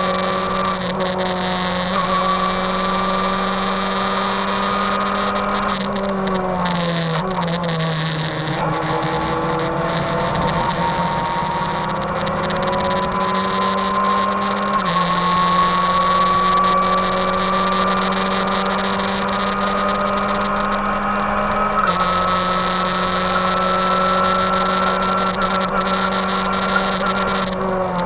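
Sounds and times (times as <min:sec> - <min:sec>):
race car engine running hard: 0:00.0 - 0:28.0
rising whine: 0:00.0 - 0:28.0.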